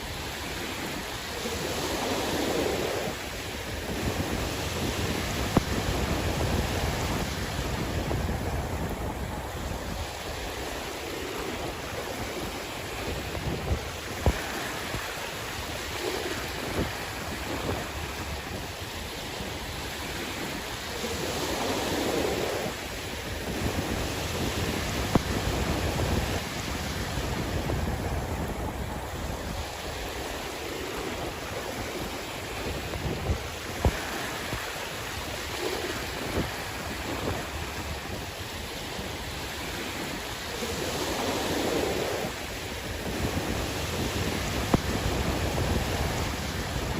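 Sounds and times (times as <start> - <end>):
sea waves washing in: 0.0 - 46.9
wind rumbling on microphone: 0.0 - 46.9.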